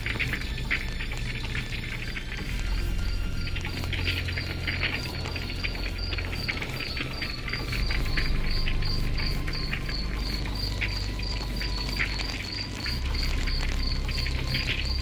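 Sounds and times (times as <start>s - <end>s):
campfire crackling: 0.0s - 15.0s
cricket chirping: 0.0s - 15.0s
low steady drone: 0.0s - 15.0s.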